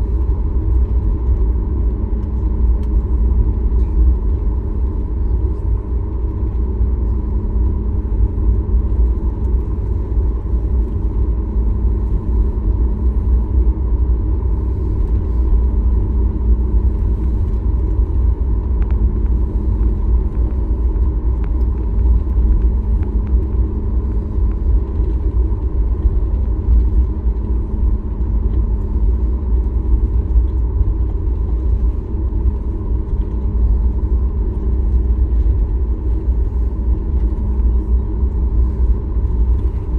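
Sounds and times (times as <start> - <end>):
aircraft engines and airflow rumble: 0.0 - 39.9
faint steady hum: 0.0 - 39.9.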